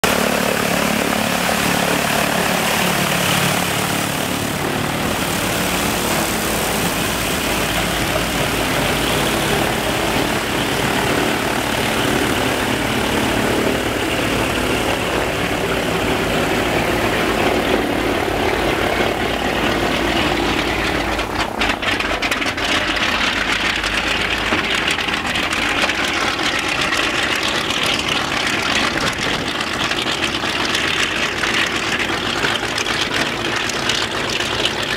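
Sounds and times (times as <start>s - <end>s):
aircraft radial engine running: 0.0s - 34.9s.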